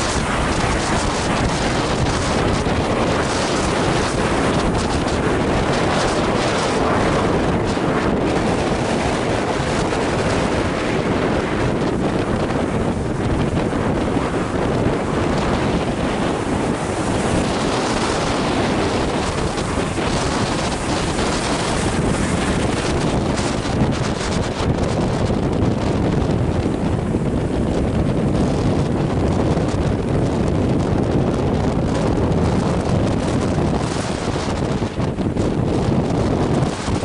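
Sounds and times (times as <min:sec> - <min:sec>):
distant jet aircraft roar: 0:00.0 - 0:37.0
wind buffeting microphone: 0:00.0 - 0:37.0.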